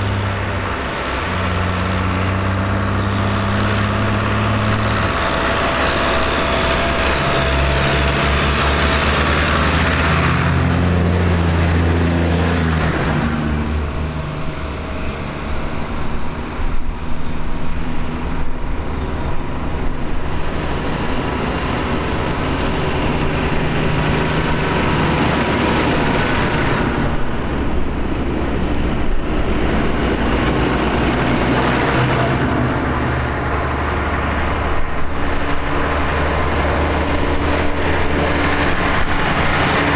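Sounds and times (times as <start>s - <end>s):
tractor diesel engines passing: 0.0s - 39.9s.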